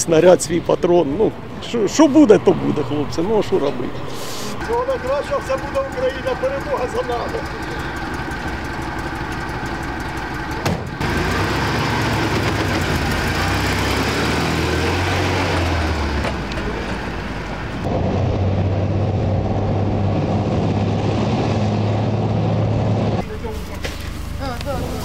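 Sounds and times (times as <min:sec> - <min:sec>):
tracked vehicle engine droning: 0:00.0 - 0:25.0
truck engine pulling away: 0:00.0 - 0:25.0.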